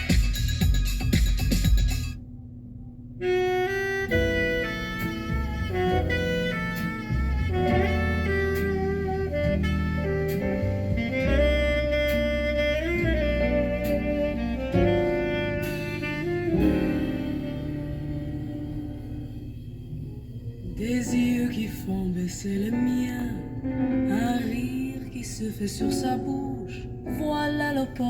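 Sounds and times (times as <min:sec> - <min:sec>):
jazz music through car stereo: 0:00.0 - 0:28.0
steady bass line: 0:00.0 - 0:28.0
saxophone-like lead melody: 0:03.2 - 0:21.8, 0:22.7 - 0:28.0.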